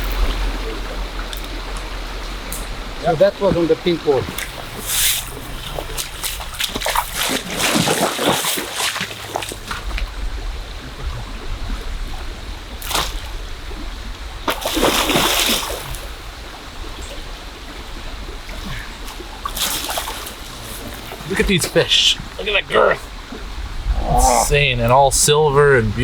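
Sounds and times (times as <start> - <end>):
flowing water rushing: 0.0 - 26.0
river water splashing: 0.0 - 26.0.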